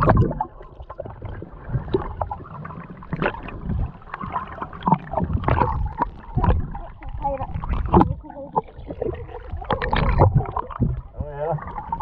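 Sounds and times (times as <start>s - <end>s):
underwater sloshing and gurgling: 0.0s - 12.0s.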